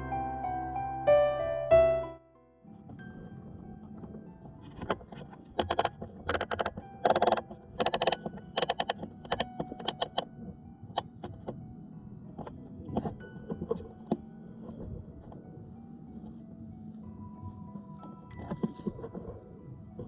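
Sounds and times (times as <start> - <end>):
faint steady hum: 2.4 - 20.0.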